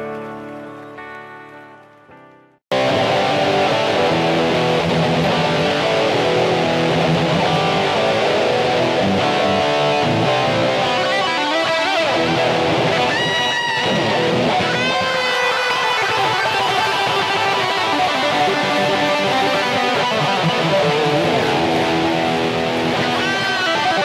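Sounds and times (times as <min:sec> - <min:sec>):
electric guitar riffs and chords: 0:00.0 - 0:24.0.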